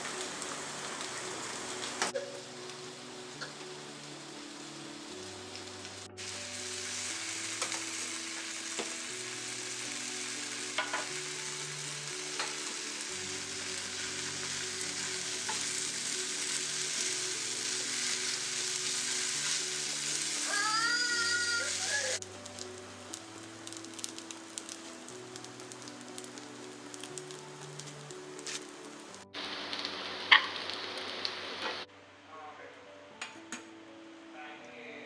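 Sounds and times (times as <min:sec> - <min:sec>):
food sizzling in a pan: 0:00.0 - 0:31.9
soft background music: 0:00.0 - 0:35.0.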